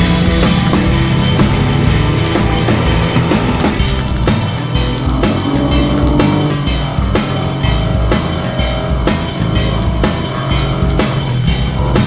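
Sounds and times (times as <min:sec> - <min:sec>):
rock music: 0:00.0 - 0:12.0
steady drum beat: 0:00.0 - 0:12.0.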